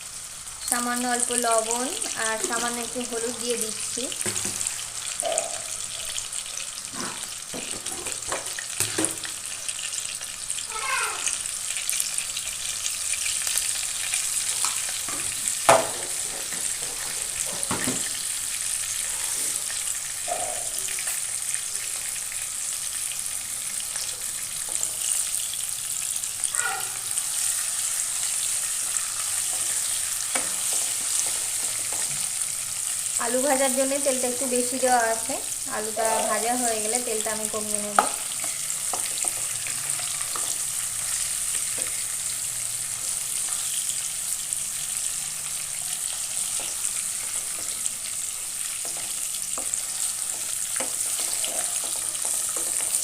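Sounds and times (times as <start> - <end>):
potatoes sizzling in hot oil: 0.0 - 53.0.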